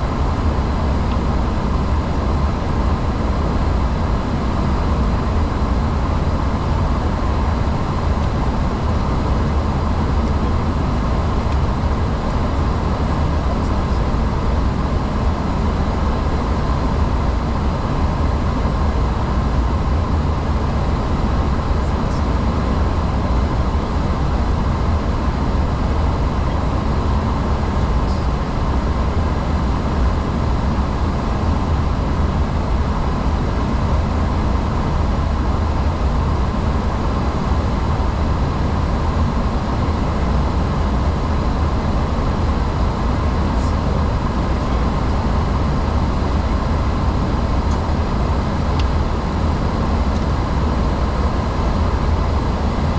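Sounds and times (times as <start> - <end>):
deep engine drone: 0.0 - 52.9
rush of air in cockpit: 0.0 - 52.9.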